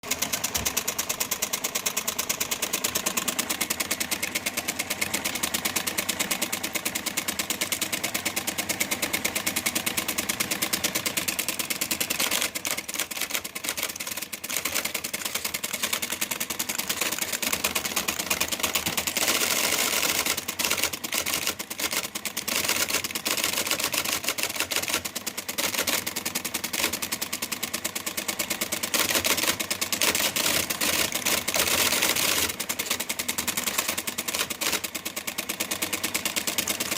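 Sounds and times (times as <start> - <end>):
typewriter typing fast: 0.0 - 36.9.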